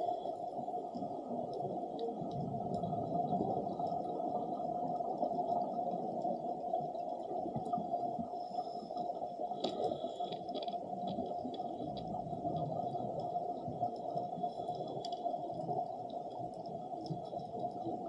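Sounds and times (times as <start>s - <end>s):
faint high ticks: 0.0s - 18.0s
underwater bubbling crackle: 0.0s - 18.0s.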